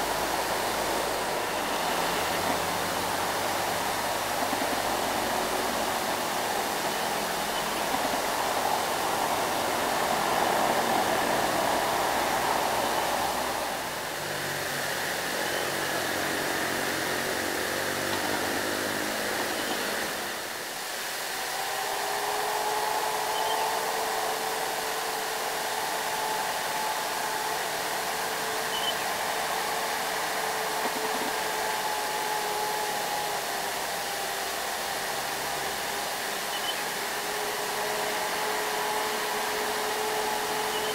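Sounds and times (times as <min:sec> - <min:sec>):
diesel trucks passing: 0:00.0 - 0:40.9
steady rushing noise: 0:00.0 - 0:40.9
steady whine: 0:00.0 - 0:40.9.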